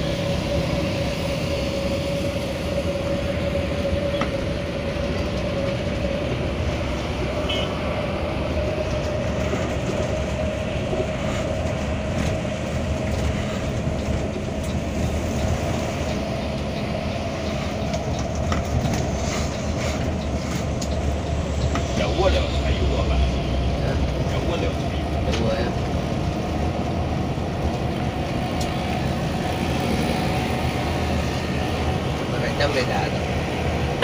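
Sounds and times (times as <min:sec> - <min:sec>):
bus engine and road drone: 0:00.0 - 0:34.0.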